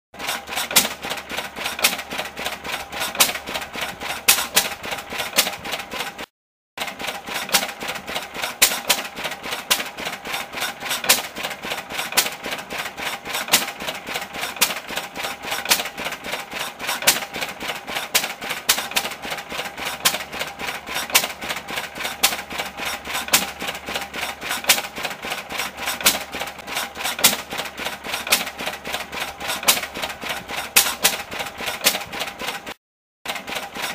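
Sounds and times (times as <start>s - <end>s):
stationary engine clattering: 0.2s - 33.9s.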